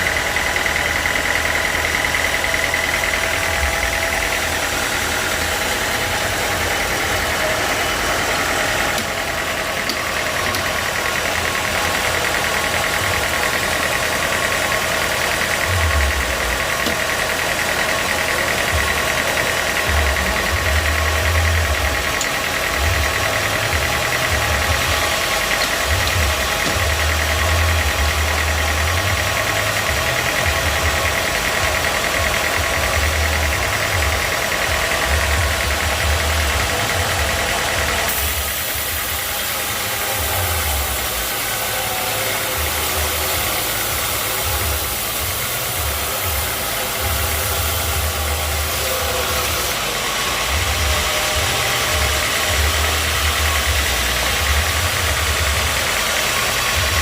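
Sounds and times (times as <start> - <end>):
high whine: 0.0 - 57.0
sawmill engine running: 0.0 - 57.0.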